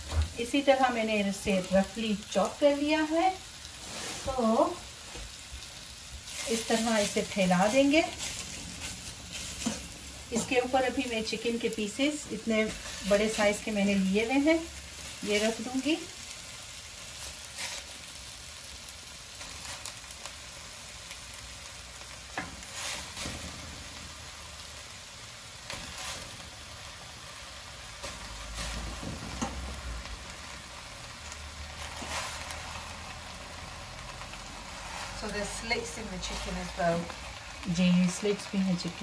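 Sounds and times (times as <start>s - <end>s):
onions sizzling in a pot: 0.0s - 39.0s.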